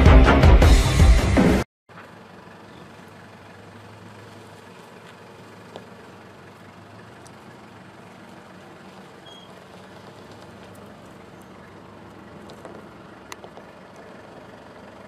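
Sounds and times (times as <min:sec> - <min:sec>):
vehicle engine idling: 0:01.9 - 0:15.0.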